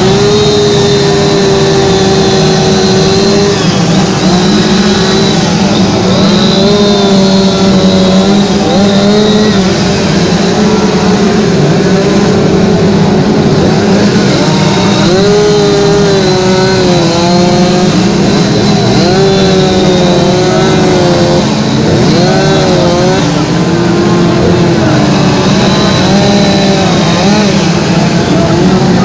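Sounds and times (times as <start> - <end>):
chainsaws revving and cutting wood: 0.0 - 29.0.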